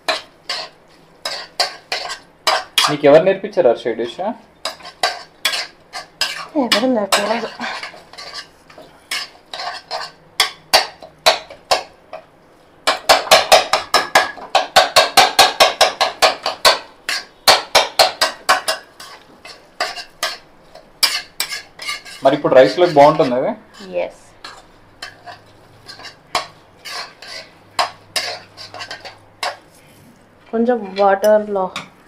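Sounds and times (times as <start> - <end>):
spatula scraping metal pan: 0.0 - 3.0, 4.6 - 11.8, 12.9 - 29.7.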